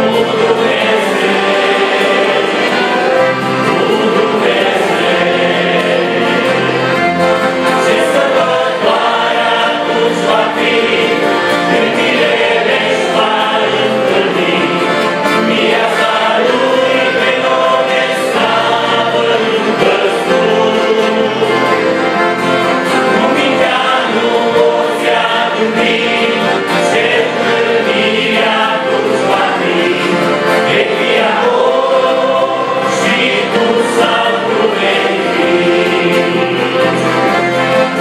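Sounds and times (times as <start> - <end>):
accordions: 0.0 - 38.0
acoustic guitar: 0.0 - 38.0
men's group singing in harmony: 0.0 - 38.0.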